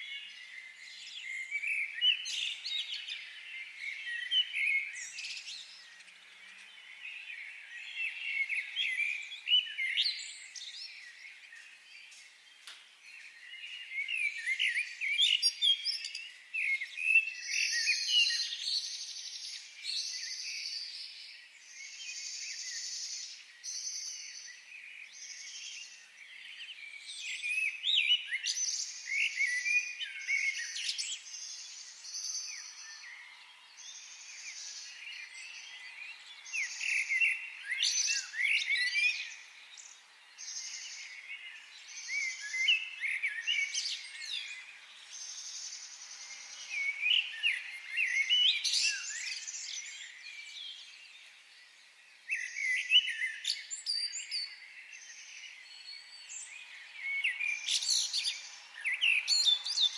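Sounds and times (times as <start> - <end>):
wild birds chirping and singing: 0.0 - 59.9.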